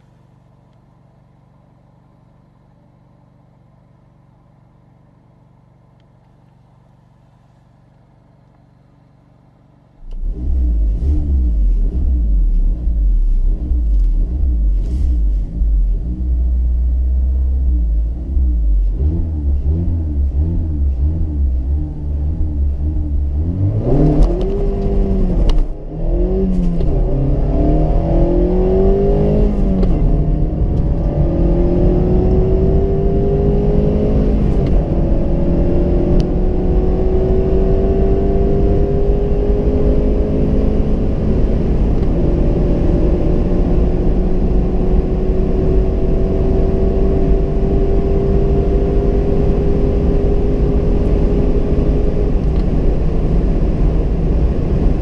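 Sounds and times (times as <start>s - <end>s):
wind and road noise: 9.4s - 55.0s
car engine accelerating hard: 10.0s - 55.0s.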